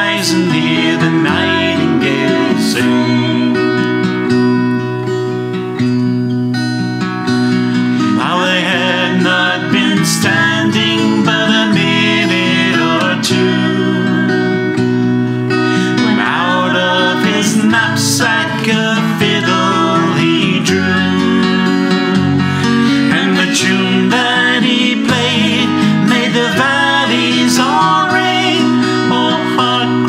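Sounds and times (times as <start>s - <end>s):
man singing folk ballad: 0.0s - 4.5s, 7.5s - 30.0s
acoustic guitar: 0.0s - 30.0s.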